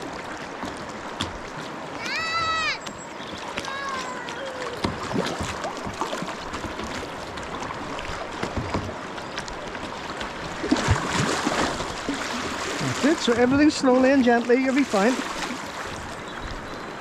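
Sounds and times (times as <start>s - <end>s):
river current rushing and gurgling: 0.0s - 17.0s
water splashing against hulls: 0.0s - 17.0s.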